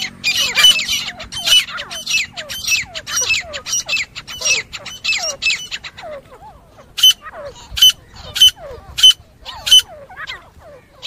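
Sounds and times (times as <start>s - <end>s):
bird giving harsh squawking calls: 0.0s - 11.0s.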